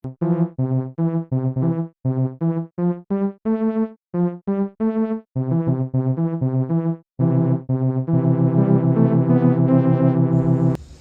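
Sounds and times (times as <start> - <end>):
bouncy synthesizer melody: 0.0 - 10.8.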